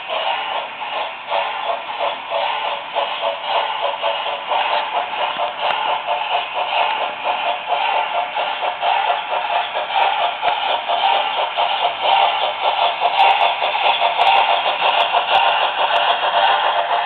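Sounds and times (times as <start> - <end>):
model steam locomotive chuffing: 0.0 - 17.0.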